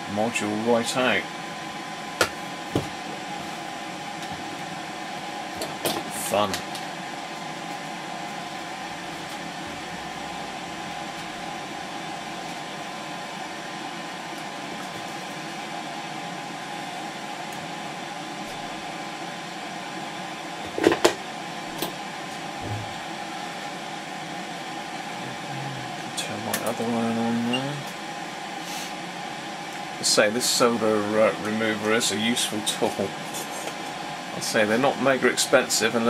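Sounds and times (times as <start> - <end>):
desoldering tool humming: 0.0 - 36.0.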